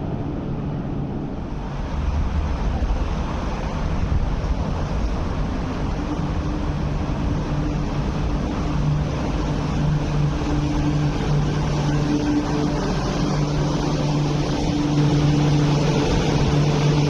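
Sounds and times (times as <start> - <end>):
steady low hum: 0.0 - 17.0
train rolling noise: 0.0 - 17.0.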